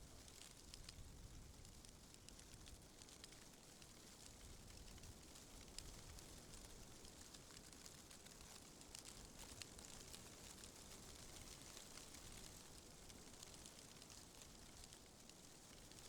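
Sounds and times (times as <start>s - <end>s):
small ticks: 0.1s - 16.0s.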